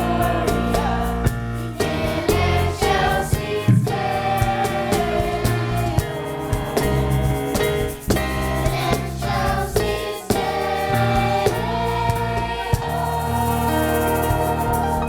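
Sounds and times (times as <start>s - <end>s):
choir singing: 0.0s - 15.0s
instrumental accompaniment with beat: 0.0s - 15.0s.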